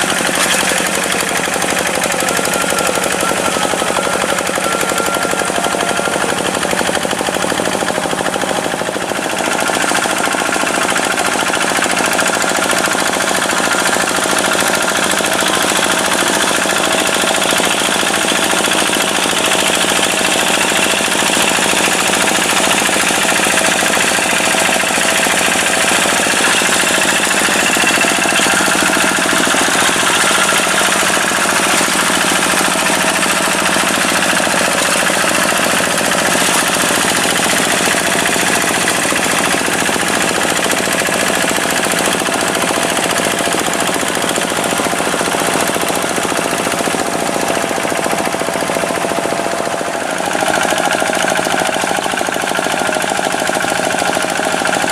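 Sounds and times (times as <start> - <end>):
diesel tractor engine clattering: 0.0 - 54.9.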